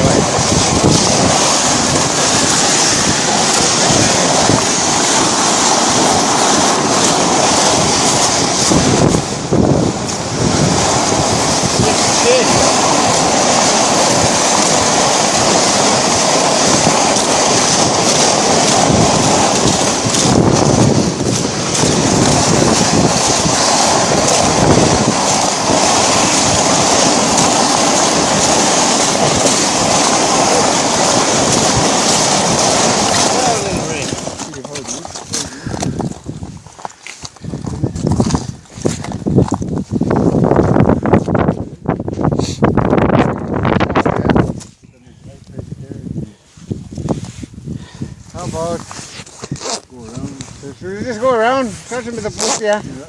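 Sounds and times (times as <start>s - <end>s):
water noise: 0.0s - 53.0s
wind buffeting microphone: 0.0s - 53.0s.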